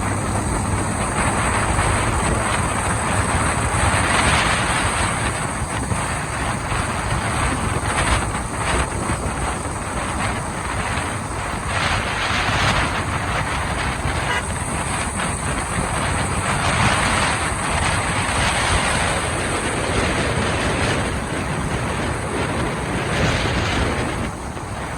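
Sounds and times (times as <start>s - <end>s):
motorcycle engine running: 0.0s - 24.9s
wind and road noise: 0.0s - 24.9s.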